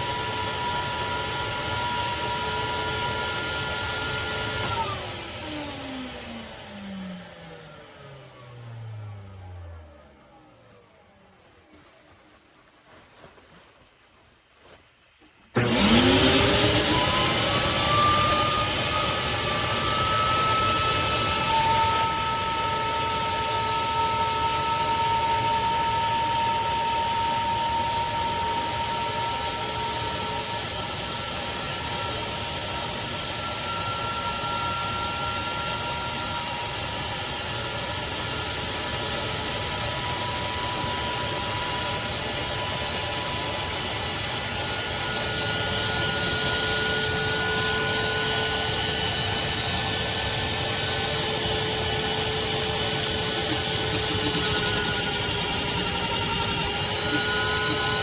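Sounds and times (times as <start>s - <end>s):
shop vacuum running: 0.0s - 12.6s, 15.4s - 58.0s.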